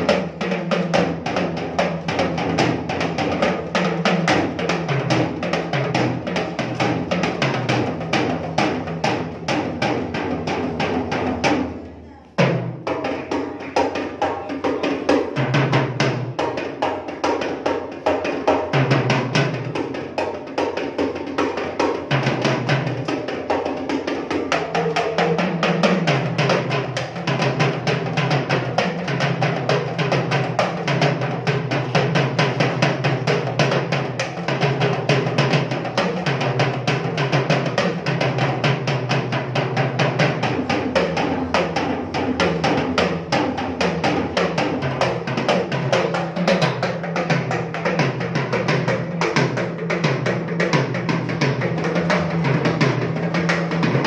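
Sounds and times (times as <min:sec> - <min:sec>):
tenor drums played with sticks: 0:00.0 - 0:54.0.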